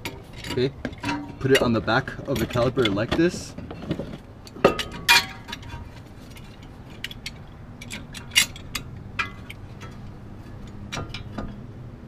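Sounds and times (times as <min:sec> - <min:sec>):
metal clamp clanking on metal: 0:00.0 - 0:11.7.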